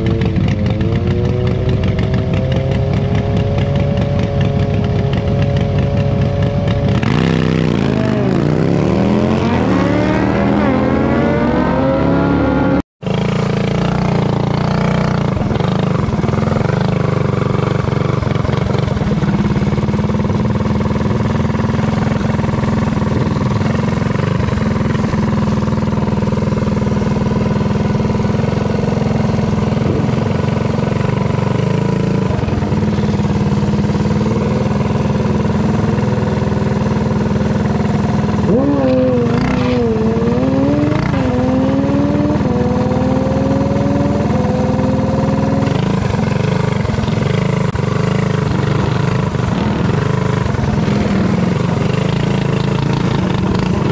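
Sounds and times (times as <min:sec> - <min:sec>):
vehicle engine accelerating: 0:00.0 - 0:53.9.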